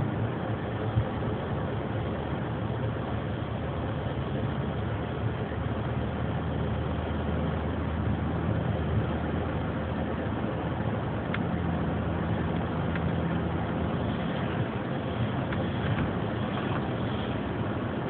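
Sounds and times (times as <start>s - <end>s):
car engine hum: 0.0s - 18.0s
tyre and road noise: 0.0s - 18.0s.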